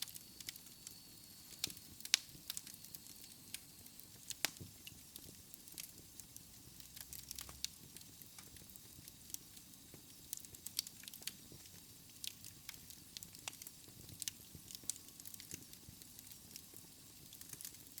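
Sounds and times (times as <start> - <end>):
faint steady hiss: 0.0 - 18.0
wood fire crackling: 0.0 - 18.0.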